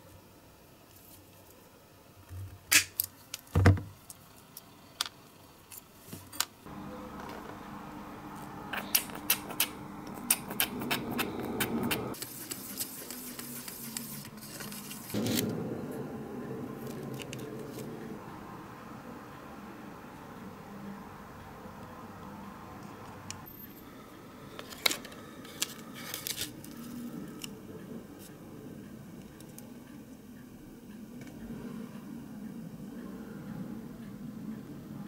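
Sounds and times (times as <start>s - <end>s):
steady background hum: 4.2s - 35.0s.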